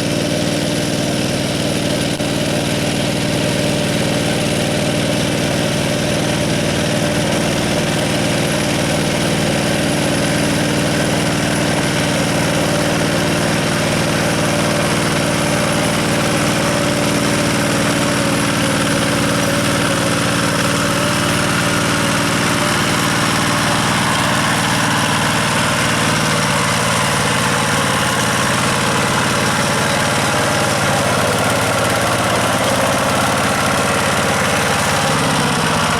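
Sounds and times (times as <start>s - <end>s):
diesel engine running steadily: 0.0s - 35.9s.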